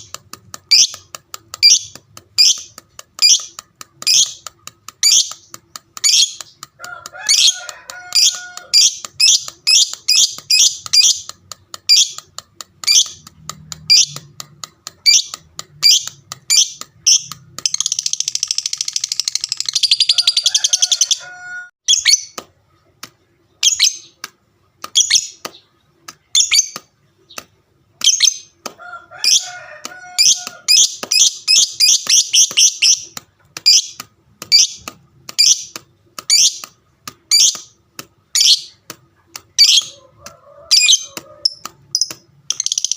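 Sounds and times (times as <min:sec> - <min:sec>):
lovebird chirping chatter: 0:00.0 - 0:22.4, 0:23.4 - 0:24.2, 0:24.8 - 0:28.6, 0:29.2 - 0:42.9.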